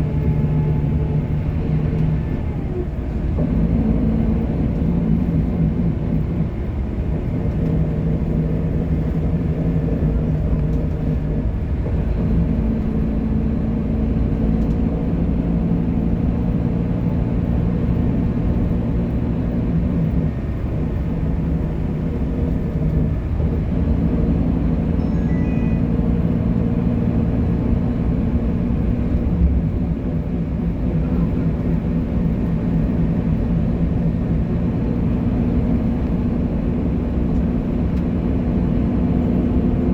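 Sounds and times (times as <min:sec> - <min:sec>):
bus diesel engine drone: 0:00.0 - 0:39.9.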